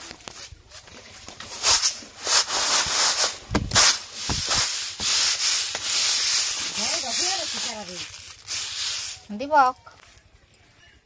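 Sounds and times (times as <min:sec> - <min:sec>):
grains rustling on bamboo tray: 0:00.0 - 0:10.3.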